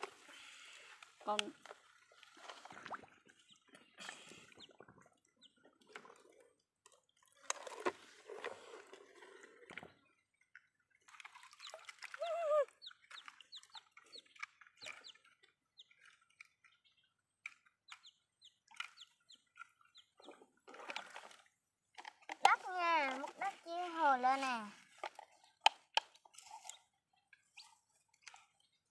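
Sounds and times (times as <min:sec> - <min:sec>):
water sloshing and splashing: 0:00.0 - 0:28.9.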